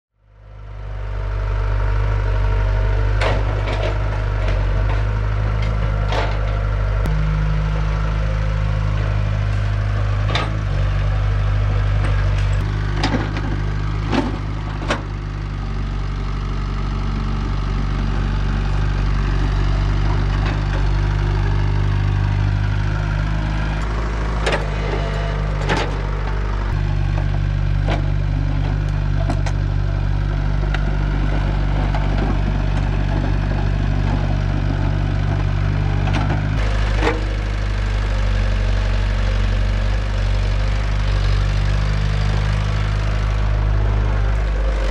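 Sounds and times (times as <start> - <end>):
excavator diesel engine running: 0.2 - 44.9.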